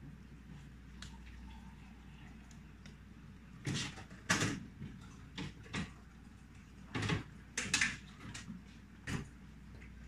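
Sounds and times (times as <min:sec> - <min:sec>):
refrigerator hum: 0:00.0 - 0:10.0.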